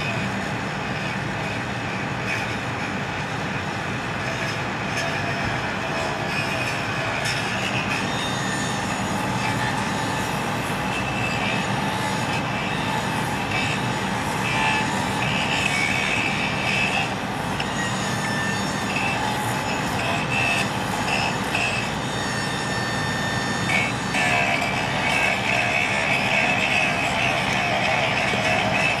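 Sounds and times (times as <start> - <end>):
train rumbling on track: 0.0 - 29.0
high wheel squeal: 4.2 - 29.0.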